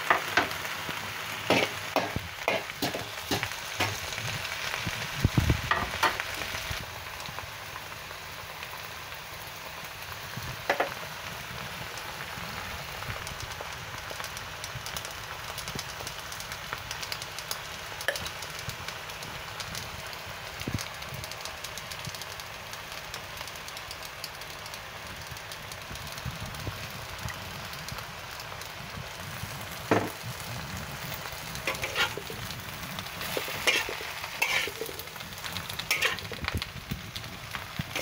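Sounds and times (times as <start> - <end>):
cabbage sizzling in a wok: 0.0 - 38.0.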